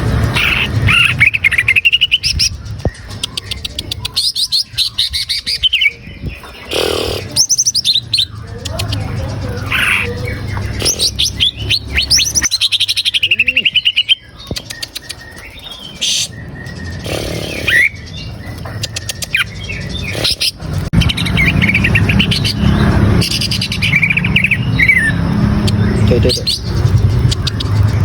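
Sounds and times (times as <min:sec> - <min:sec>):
bird singing whistles and trills: 0:00.6 - 0:20.4, 0:21.0 - 0:27.7.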